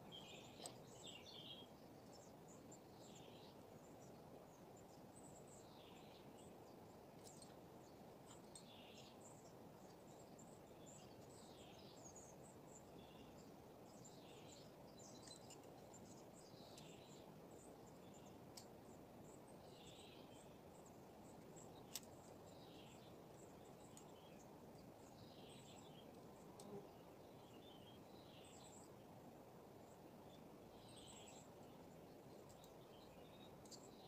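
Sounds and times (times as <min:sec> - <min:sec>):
bird chirping: 0:00.0 - 0:29.0, 0:29.8 - 0:34.0.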